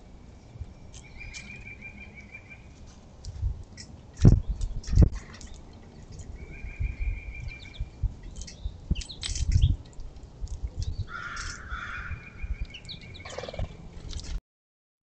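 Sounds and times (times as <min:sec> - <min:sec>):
birds chirping: 0:00.0 - 0:02.9, 0:03.7 - 0:13.8.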